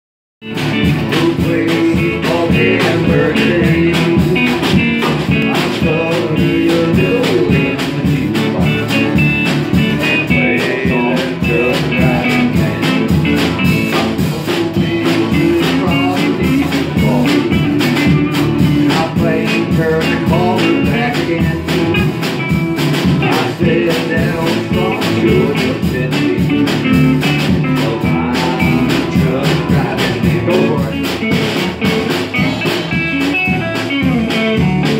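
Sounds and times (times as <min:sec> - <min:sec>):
drum kit steady beat: 0:00.4 - 0:34.9
electric guitar: 0:00.4 - 0:34.9
live country band: 0:00.4 - 0:34.9
acoustic guitar: 0:00.5 - 0:34.9.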